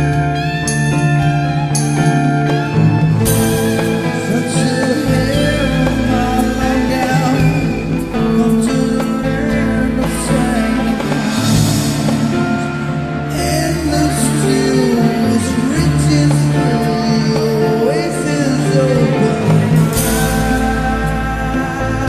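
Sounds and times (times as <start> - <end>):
bass: 0.0 - 22.0
rock guitar: 0.0 - 22.0.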